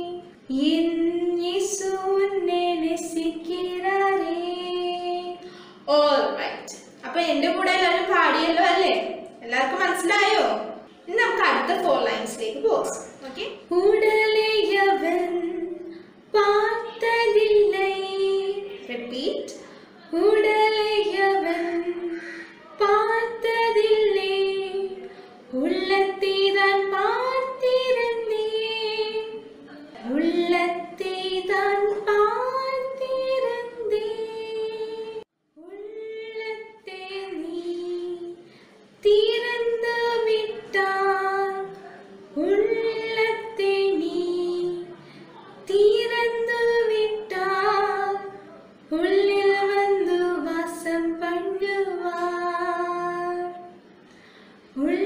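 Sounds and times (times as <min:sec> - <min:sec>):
woman singing unaccompanied: 0:00.0 - 0:10.8, 0:11.6 - 0:45.0, 0:45.6 - 0:53.8, 0:54.7 - 0:55.0.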